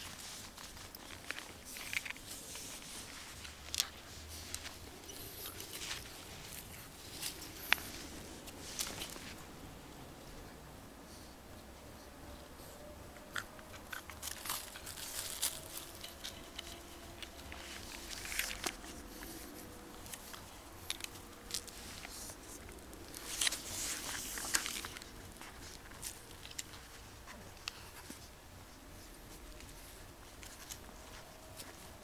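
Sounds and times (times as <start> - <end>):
puppy chewing: 0.0 - 9.5, 13.1 - 32.0.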